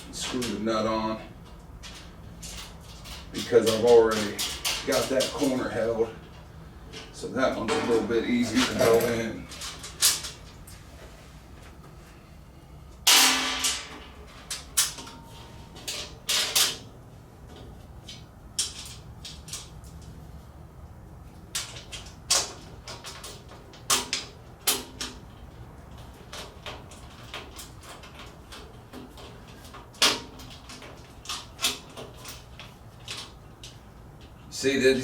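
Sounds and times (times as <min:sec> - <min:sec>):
metal clicks and clanks: 0:01.4 - 0:10.8, 0:13.0 - 0:16.9, 0:17.5 - 0:20.2, 0:21.4 - 0:34.4.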